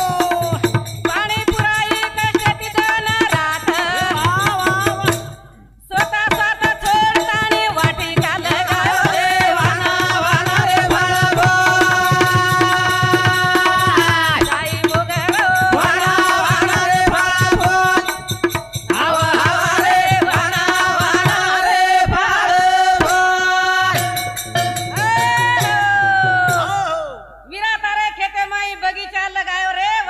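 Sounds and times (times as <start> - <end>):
barrel drum beat: 0.0 - 21.6, 23.0 - 27.0
devotional singing: 0.0 - 30.0.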